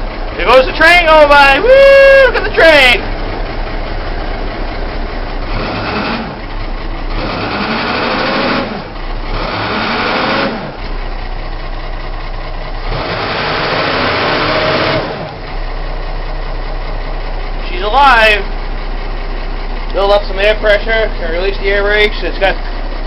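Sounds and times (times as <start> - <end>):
diesel engine revving: 0.0 - 23.0.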